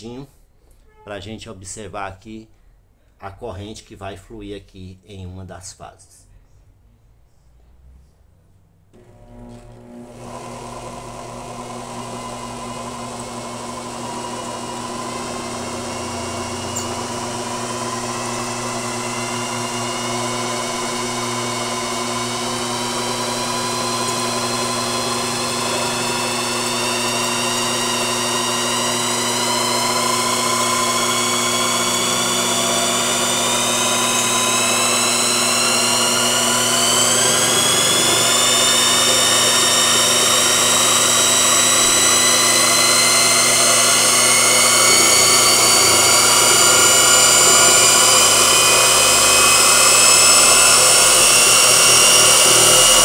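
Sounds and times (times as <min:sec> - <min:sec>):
electric motor whine: 0:09.0 - 0:53.0.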